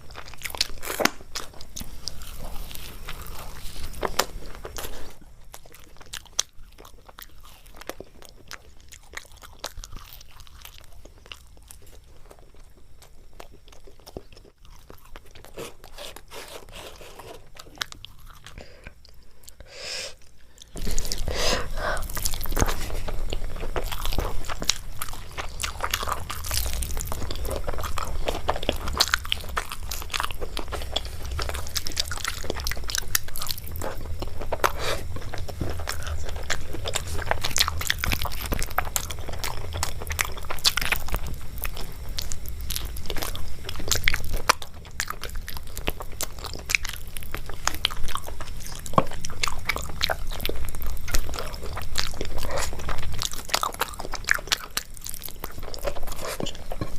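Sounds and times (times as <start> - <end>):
low steady hum: 0.0 - 56.9
person chewing and crunching: 0.0 - 56.9.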